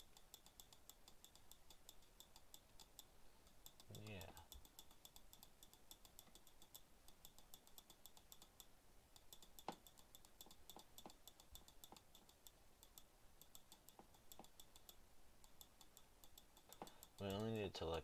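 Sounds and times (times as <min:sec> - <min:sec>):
mouse and keyboard clicks: 0:00.0 - 0:17.7.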